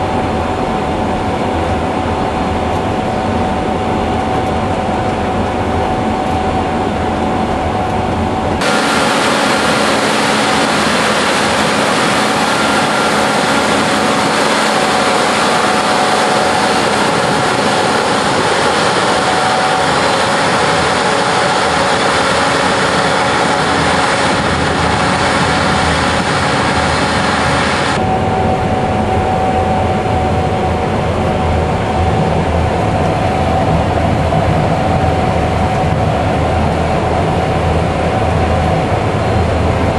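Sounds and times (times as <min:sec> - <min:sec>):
combine harvester engine drone: 0:00.0 - 0:39.9
thin steady whine: 0:00.0 - 0:39.9.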